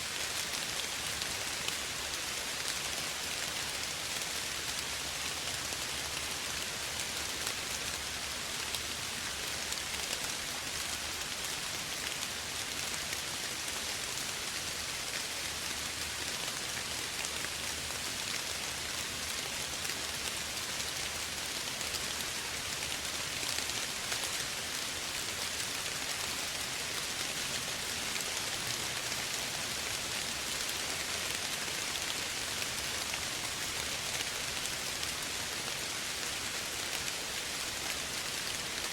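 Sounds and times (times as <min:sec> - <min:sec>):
soft rain pattering: 0:00.0 - 0:38.9.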